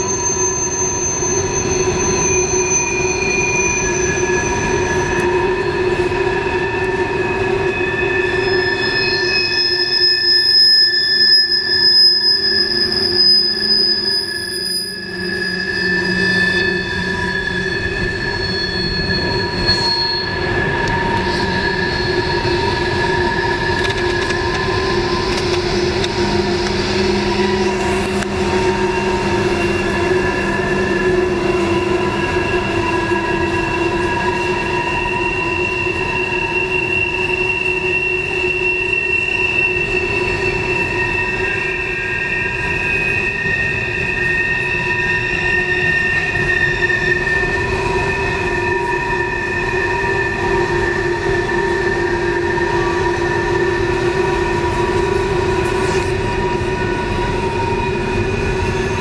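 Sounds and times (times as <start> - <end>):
low rumble of train cars: 0.0 - 59.0
train wheels squealing on rails: 0.0 - 59.0.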